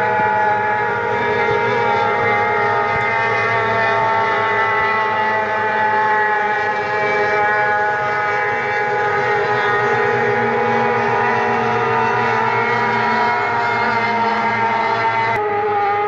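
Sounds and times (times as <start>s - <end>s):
racing boat engines droning: 0.0s - 16.0s.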